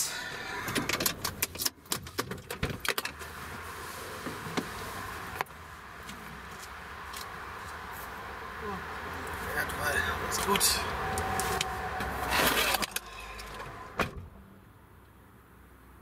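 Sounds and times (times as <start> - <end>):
motorway traffic hum: 0.0 - 16.0.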